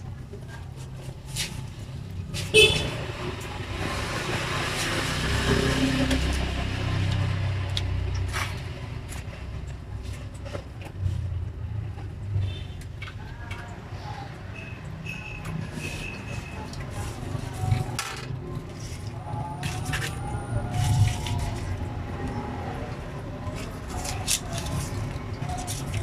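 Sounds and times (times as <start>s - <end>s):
road vehicle passing: 0.8s - 12.6s, 13.6s - 26.0s.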